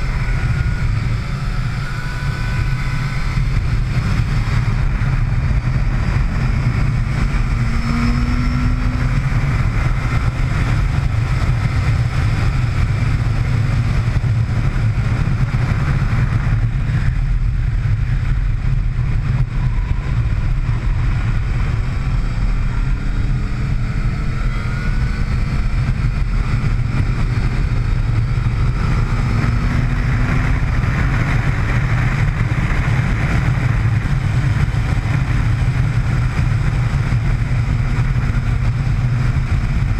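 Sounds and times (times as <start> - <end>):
motorcycle engine: 0.0 - 39.9
wind rush over microphone: 0.0 - 39.9.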